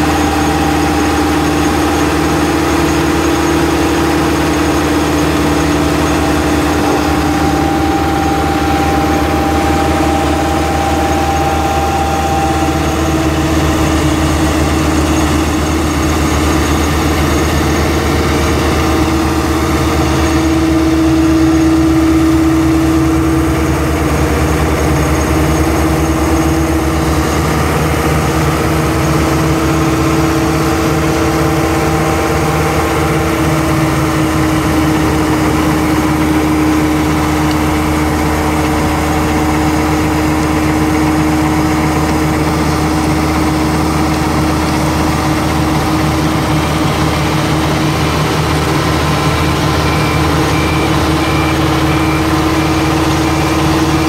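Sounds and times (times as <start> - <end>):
screening plant drone: 0.0 - 54.0
wheel loader diesel engine: 0.0 - 54.0.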